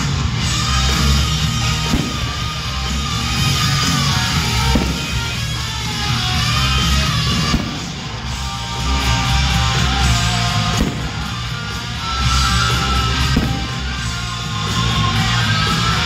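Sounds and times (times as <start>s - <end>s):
fireworks bangs: 0.0s - 16.0s
guitar-driven rock music: 0.0s - 16.0s.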